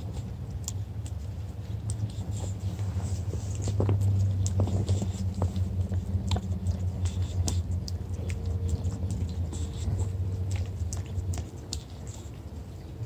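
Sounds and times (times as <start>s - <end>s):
dog licking and snapping: 0.0s - 13.0s
low droning hum: 0.0s - 13.0s.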